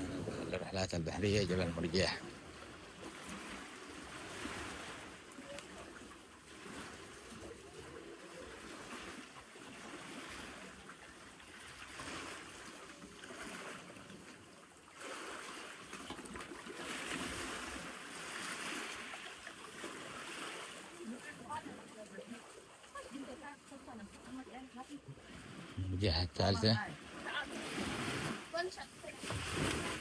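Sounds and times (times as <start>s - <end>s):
sea waves sloshing: 0.0s - 30.0s.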